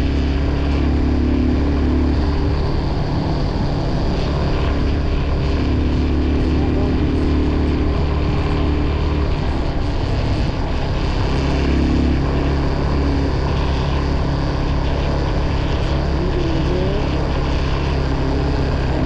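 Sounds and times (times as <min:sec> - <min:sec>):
motorcycle engine droning: 0:00.0 - 0:19.0
rushing wind noise: 0:00.0 - 0:19.0.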